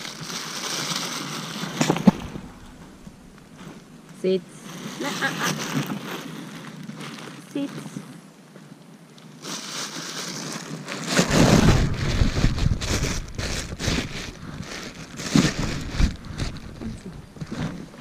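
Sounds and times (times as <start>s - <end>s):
rumbling crackling microphone noise: 0.0s - 18.0s.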